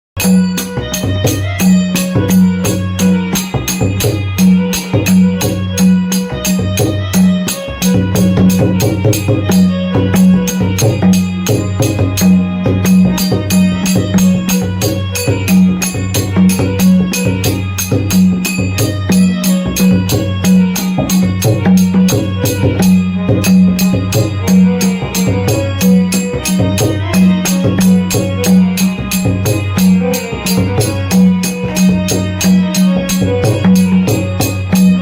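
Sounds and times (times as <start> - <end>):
metallic jingling strokes: 0.2 - 35.0.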